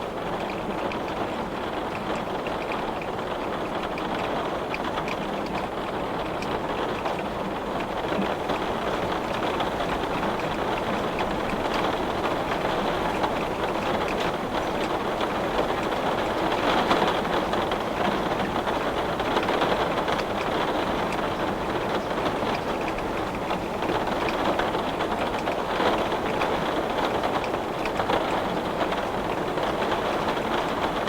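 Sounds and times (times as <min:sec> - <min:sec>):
heavy rain on glass: 0:00.0 - 0:31.0.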